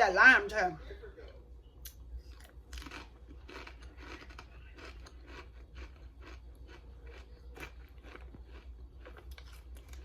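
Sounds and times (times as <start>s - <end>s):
chewing crunchy potato chips: 1.9s - 10.0s.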